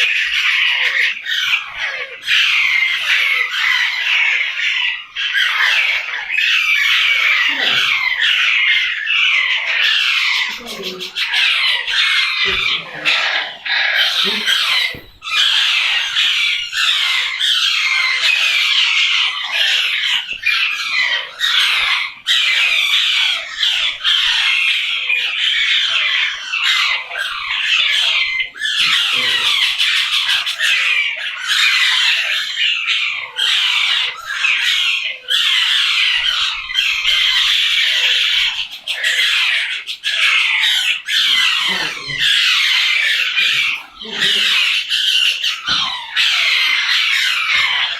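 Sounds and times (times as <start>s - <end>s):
parrots squawking: 0.0s - 47.9s.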